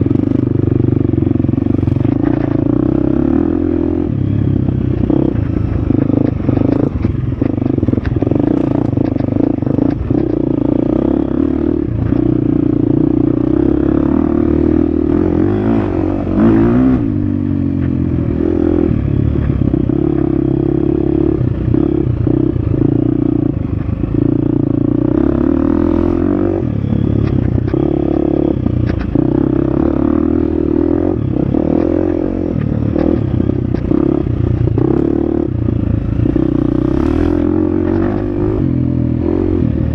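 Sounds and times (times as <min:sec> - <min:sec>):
dirt bike engine revving: 0:00.0 - 0:17.6, 0:18.2 - 0:39.9.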